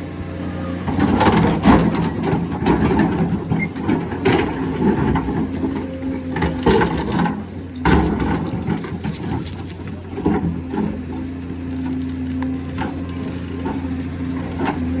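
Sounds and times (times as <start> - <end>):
diesel engine running under load: 0.0 - 15.0
excavator clanks and knocks: 0.0 - 15.0.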